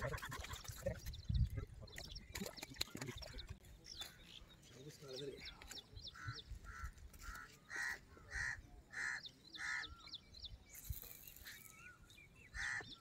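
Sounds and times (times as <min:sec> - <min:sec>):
small birds chirping: 0:00.0 - 0:13.0
bird harsh calls: 0:02.0 - 0:13.0.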